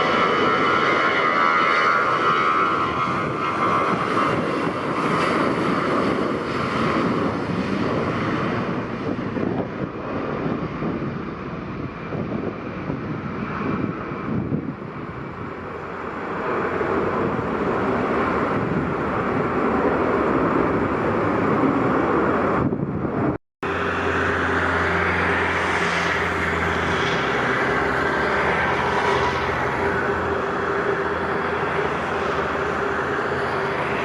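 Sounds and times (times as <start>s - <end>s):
airliner engines running: 0.0s - 34.0s
wind rushing on microphone: 0.0s - 34.0s.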